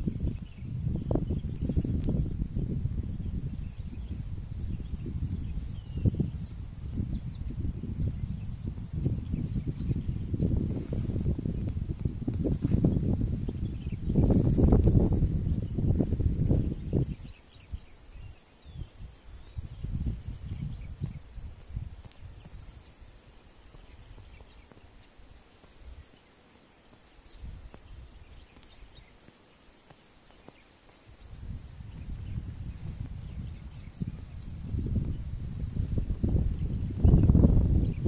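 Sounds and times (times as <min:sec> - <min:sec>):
wind buffeting microphone: 0:00.0 - 0:26.1, 0:27.2 - 0:29.1, 0:31.1 - 0:38.0
insects chirring: 0:00.0 - 0:38.0.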